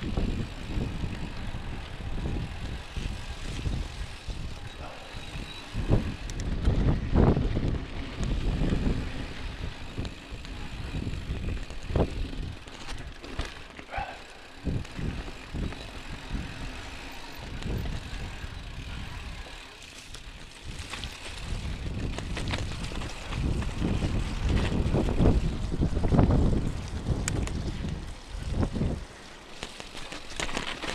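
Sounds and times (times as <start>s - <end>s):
wind buffeting microphone: 0.0s - 13.2s, 13.9s - 19.6s, 20.2s - 29.3s
bike rattling over bumps: 0.0s - 30.9s
bike tyre rumble on dirt: 0.0s - 30.9s.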